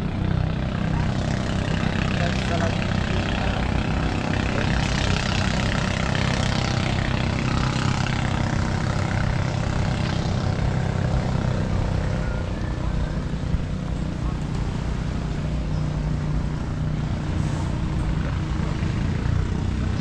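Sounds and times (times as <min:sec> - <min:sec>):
motor engine droning: 0:00.0 - 0:20.0.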